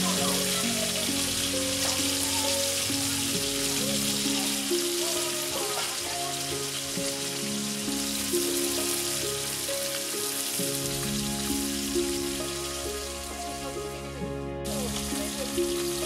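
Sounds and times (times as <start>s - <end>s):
background music with held notes: 0.0s - 16.0s
fish sizzling in oil: 0.0s - 16.0s.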